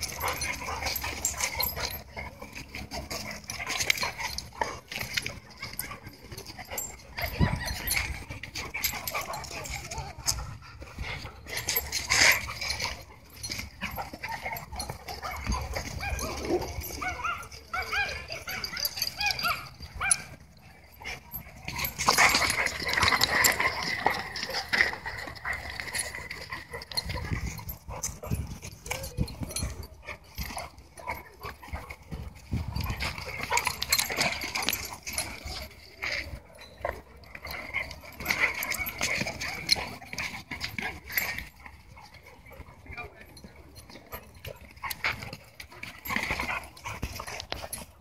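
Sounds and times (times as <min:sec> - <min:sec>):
dogs growling and whining: 0:00.0 - 0:48.0.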